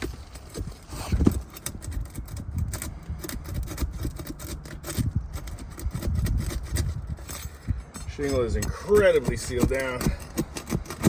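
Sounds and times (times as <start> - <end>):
pry tool scraping shingles: 0.0 - 11.0.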